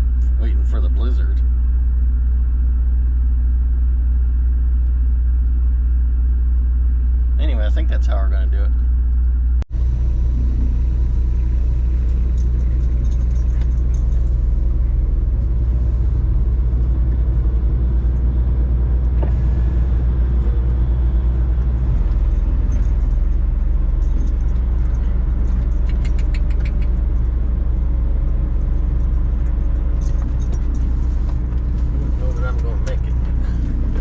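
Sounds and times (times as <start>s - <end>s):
truck diesel engine rumbling: 0.0s - 34.0s.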